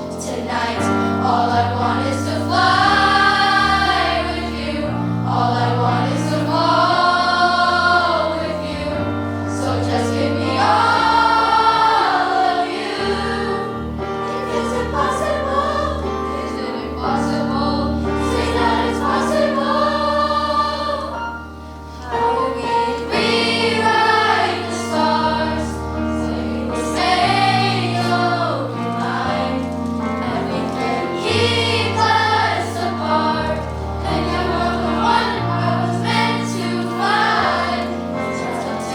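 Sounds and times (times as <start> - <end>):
choir singing a pop song: 0.0 - 38.9.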